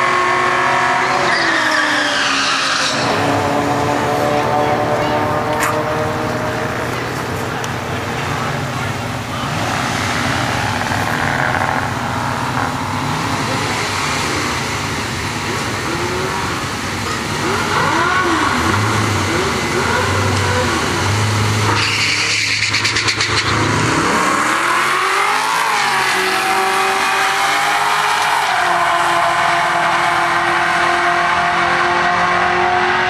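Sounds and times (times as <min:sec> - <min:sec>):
cars accelerating away: 0:00.0 - 0:33.0
drag car engines revving: 0:00.0 - 0:33.0.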